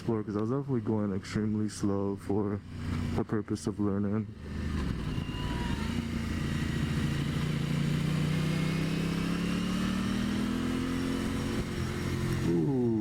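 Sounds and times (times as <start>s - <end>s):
motorcycle engine accelerating: 0.0s - 3.3s, 4.2s - 13.0s.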